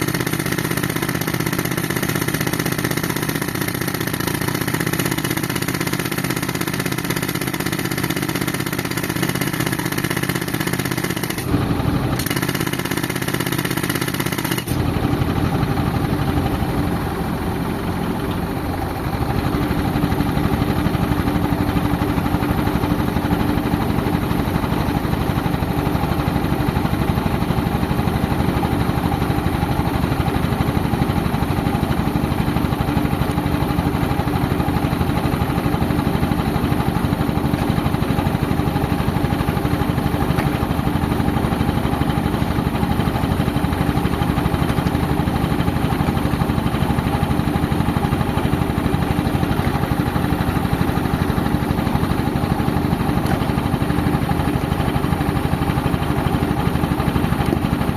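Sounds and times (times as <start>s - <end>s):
tractor engine running compressor: 0.0s - 57.9s.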